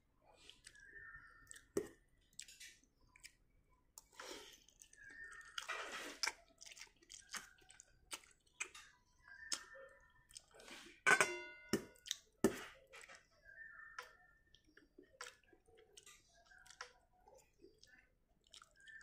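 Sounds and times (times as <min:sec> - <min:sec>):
person chewing wetly: 0:00.3 - 0:11.0, 0:11.6 - 0:19.0.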